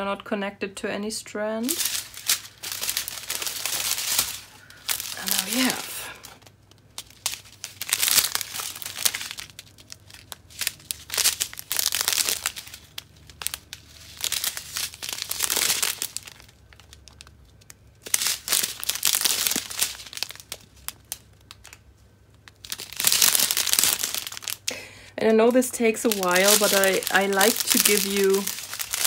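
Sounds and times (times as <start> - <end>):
plastic bags crinkling: 1.6 - 29.0.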